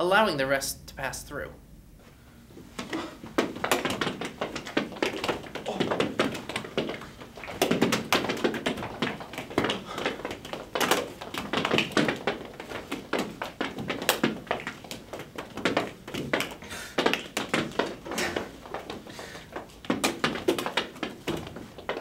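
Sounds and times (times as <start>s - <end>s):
balls bouncing off floor and wall: 2.7s - 22.0s.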